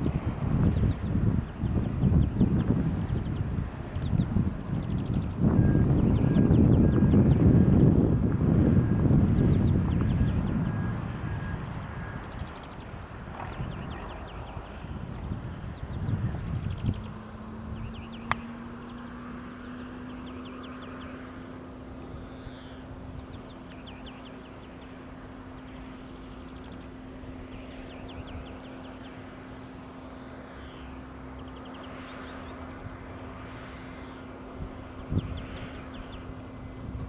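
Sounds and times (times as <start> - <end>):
small birds chirping: 0.0 - 8.0, 9.2 - 36.9
distant jet engines humming: 0.0 - 37.0.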